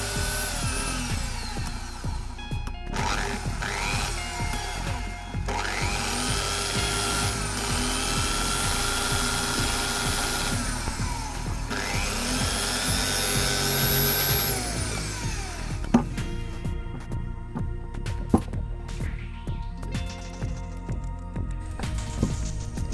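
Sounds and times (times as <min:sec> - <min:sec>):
electric drill whining: 0:00.0 - 0:19.0
background music: 0:00.0 - 0:22.9.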